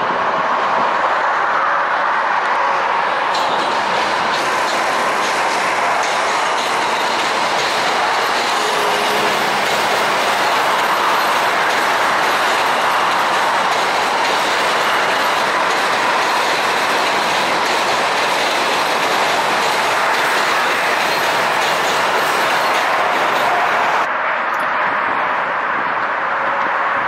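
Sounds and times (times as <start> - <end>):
subway train rumbling past: 0.0 - 27.0.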